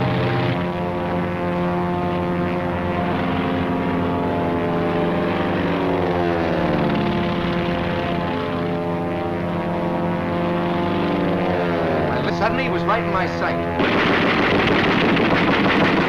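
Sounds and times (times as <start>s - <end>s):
propeller aircraft engine: 0.0s - 16.0s.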